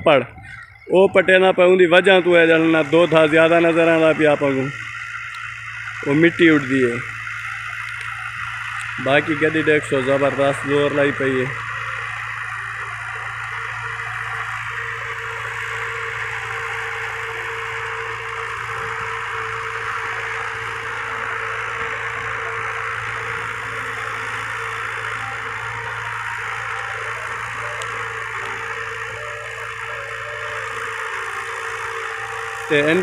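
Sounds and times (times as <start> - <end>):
tractor diesel engine under load: 0.0 - 33.0
disc harrow scraping soil: 1.0 - 33.0.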